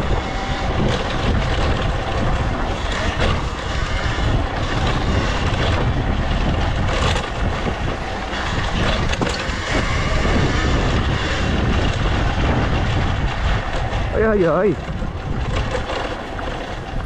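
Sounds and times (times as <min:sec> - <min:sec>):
tyres rumbling over dirt: 0:00.0 - 0:17.0
wind buffeting microphone: 0:00.0 - 0:17.0.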